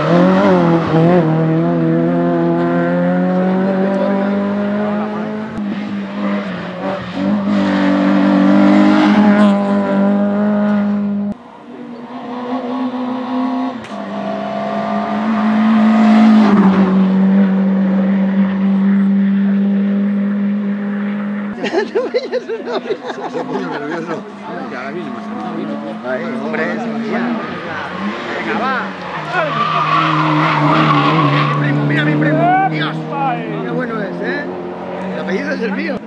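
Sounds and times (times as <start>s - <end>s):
race car engines accelerating: 0.0s - 36.0s.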